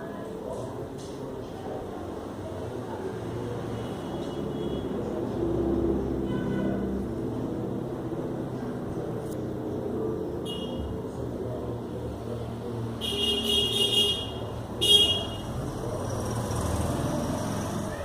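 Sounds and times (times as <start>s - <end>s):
low traffic rumble: 0.0s - 18.0s.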